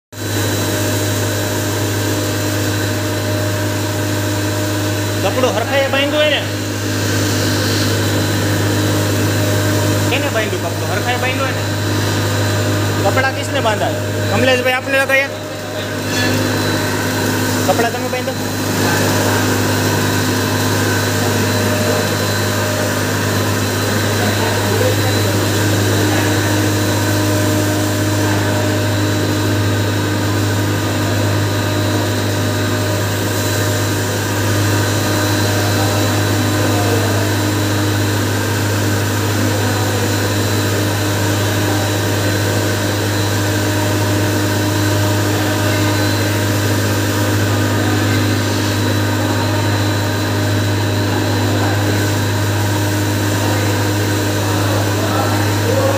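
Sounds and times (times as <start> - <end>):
grinder motor hum: 0.2 - 55.9
mill whirring rush: 0.2 - 55.9.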